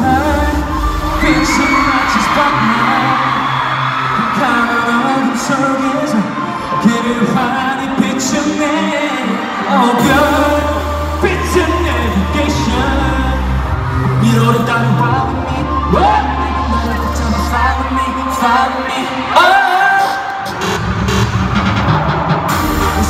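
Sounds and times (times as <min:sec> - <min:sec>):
man singing: 0:00.0 - 0:20.6
pop backing track: 0:00.0 - 0:23.0.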